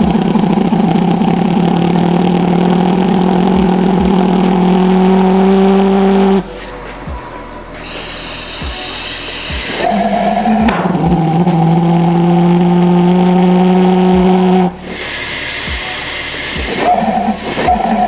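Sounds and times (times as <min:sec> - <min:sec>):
pulsejet engine droning buzz: 0:00.0 - 0:18.0.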